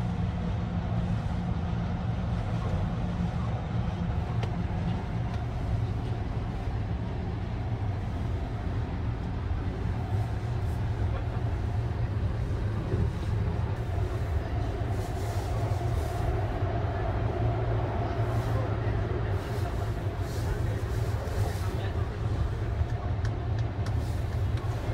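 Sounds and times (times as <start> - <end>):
train running rumble inside compartment: 0.0 - 24.9.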